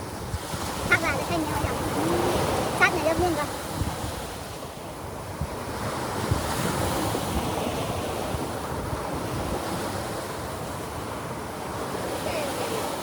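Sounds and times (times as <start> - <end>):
waves breaking on a beach: 0.0 - 13.0
wind buffeting microphone: 0.0 - 13.0.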